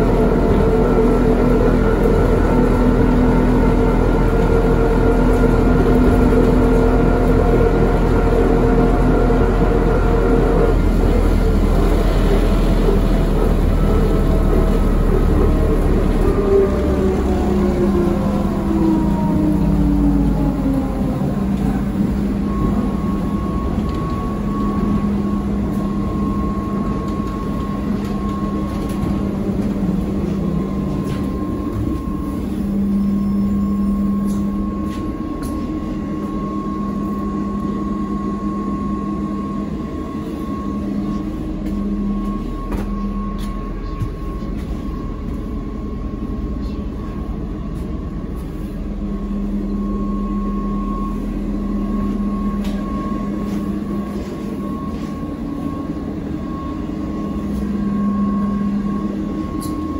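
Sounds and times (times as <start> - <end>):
road rumble: 0.0 - 59.9
trolleybus hum and whine: 0.0 - 59.9.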